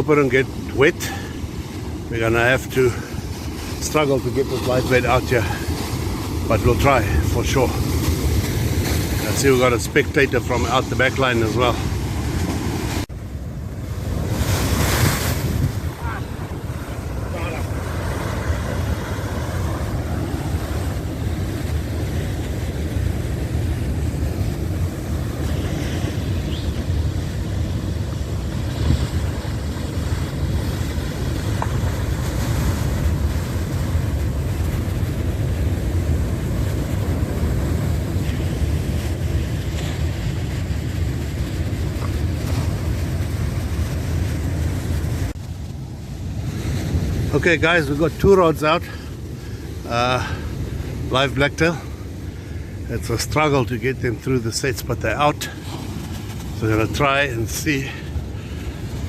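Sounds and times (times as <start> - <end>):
wind buffeting microphone: 0.0 - 54.3
heavy surf: 0.0 - 59.0.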